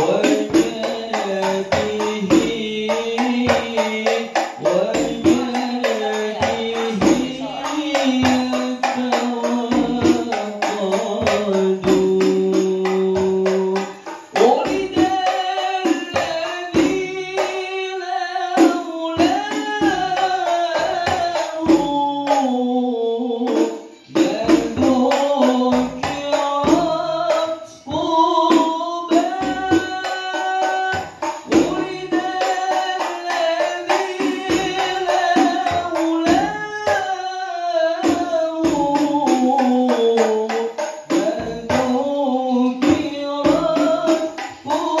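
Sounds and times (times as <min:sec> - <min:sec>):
frame drums beating: 0:00.0 - 0:17.9, 0:18.5 - 0:22.6, 0:23.4 - 0:37.2, 0:37.9 - 0:45.0
man singing: 0:00.0 - 0:45.0.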